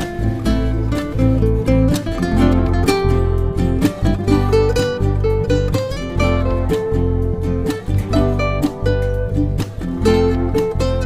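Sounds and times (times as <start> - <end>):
bass line: 0.0 - 11.0
plucked guitar notes: 0.0 - 11.0.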